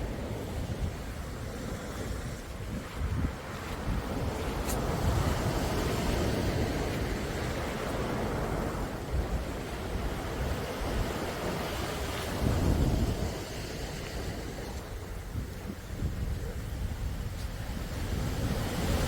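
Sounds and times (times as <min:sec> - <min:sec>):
sea waves washing: 0:00.0 - 0:19.0
wind rumbling on microphone: 0:00.0 - 0:19.0.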